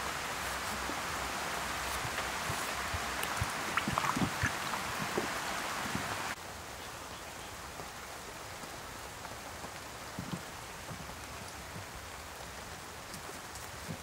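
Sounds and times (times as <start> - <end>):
rain falling on grass and leaves: 0.0 - 14.0.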